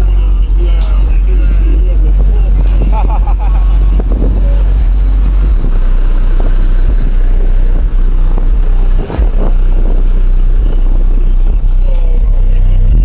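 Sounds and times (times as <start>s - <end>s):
very loud deep subwoofer bass: 0.0s - 13.0s.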